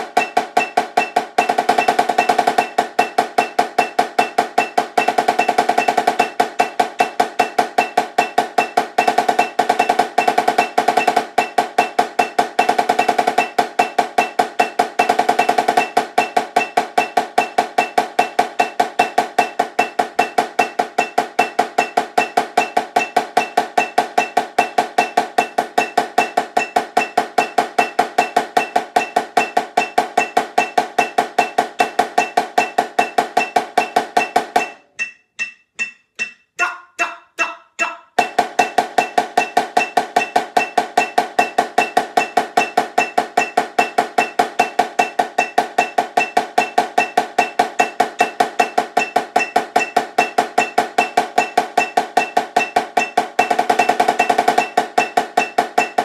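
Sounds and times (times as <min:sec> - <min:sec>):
snare drum strokes: 0:00.0 - 0:56.0.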